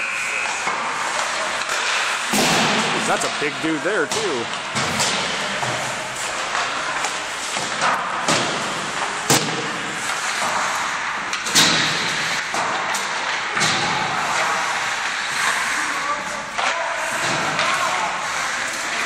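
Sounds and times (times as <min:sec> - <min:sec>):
hockey pucks and sticks knocking: 0:00.1 - 0:19.0
steady rink hiss: 0:00.1 - 0:19.0.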